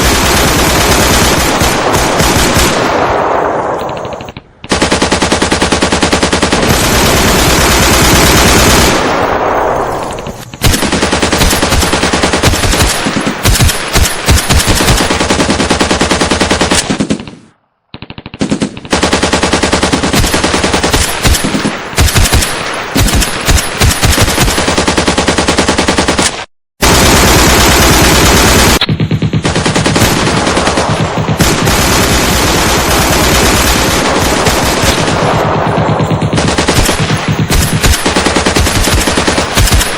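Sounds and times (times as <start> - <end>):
machine-gun fire: 0.0 - 39.9.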